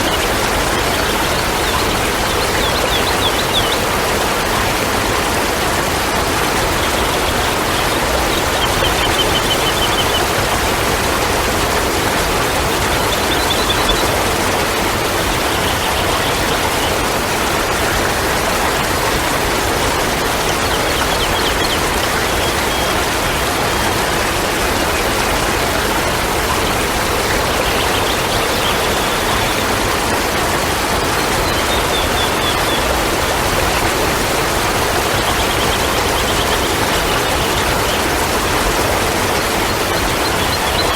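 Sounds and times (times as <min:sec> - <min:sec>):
rush of running water: 0:00.0 - 0:40.9.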